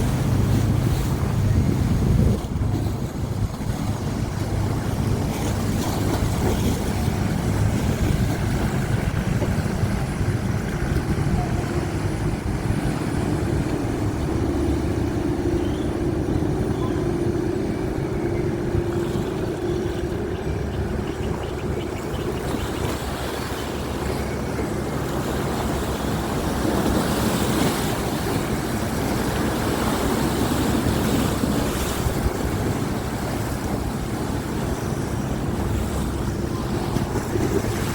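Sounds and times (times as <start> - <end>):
boat diesel engine droning: 0.0 - 37.9
river water wash: 0.0 - 37.9.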